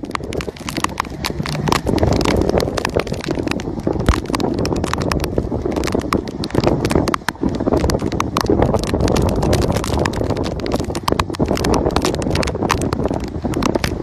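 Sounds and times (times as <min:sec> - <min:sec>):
steady low rumble: 0:00.0 - 0:14.0
water spattering and splashing: 0:00.0 - 0:14.0.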